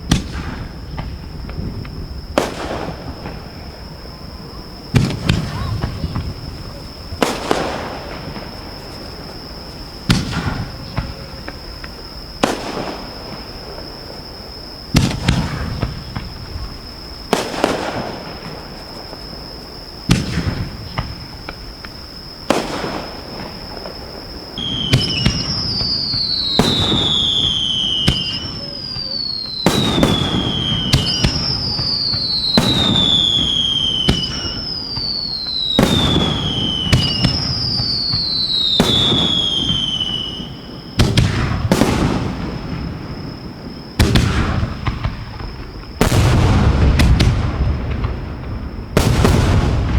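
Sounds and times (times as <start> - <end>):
firework bangs: 0.0 - 49.9
firework whistles falling in pitch: 0.0 - 49.9.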